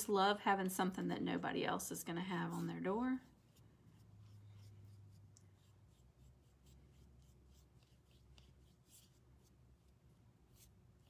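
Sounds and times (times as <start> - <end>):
paintbrush scratchy strokes: 1.9 - 11.0.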